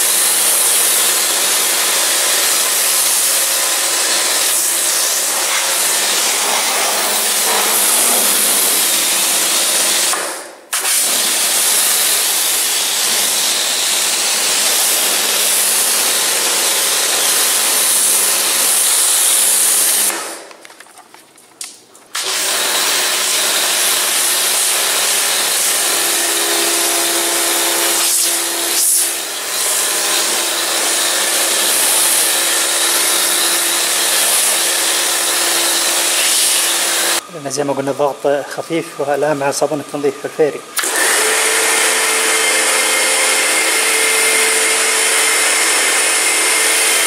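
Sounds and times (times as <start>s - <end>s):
pressure washer motor humming: 0.0s - 20.4s, 22.2s - 47.0s.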